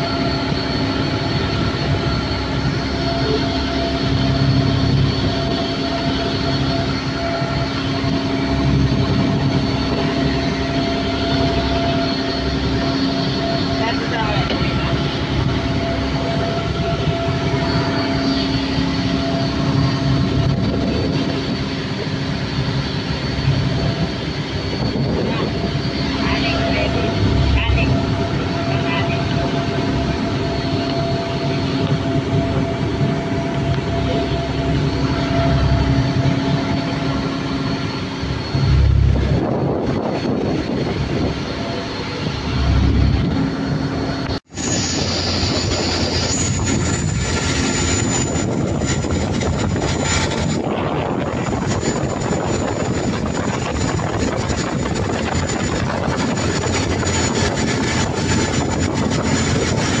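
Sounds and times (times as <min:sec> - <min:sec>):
boat engine drone: 0:00.0 - 1:00.0
faint high whine: 0:00.0 - 1:00.0
water rushing along hull: 0:00.0 - 1:00.0
wind buffeting microphone: 0:00.0 - 1:00.0.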